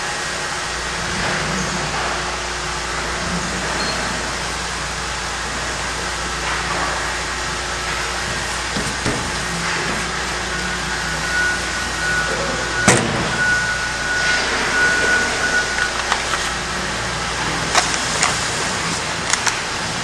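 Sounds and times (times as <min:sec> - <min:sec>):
mechanical running noise: 0:00.1 - 0:20.0
thin high whine: 0:03.3 - 0:19.3.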